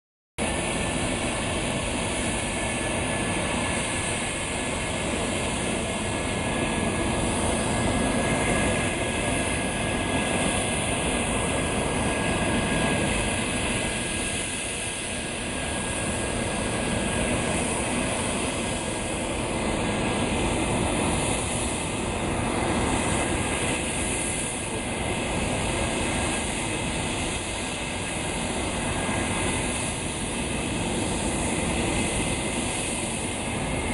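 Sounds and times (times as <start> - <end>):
high jet whine: 0.4 - 33.9
jet engines roaring: 0.4 - 33.9.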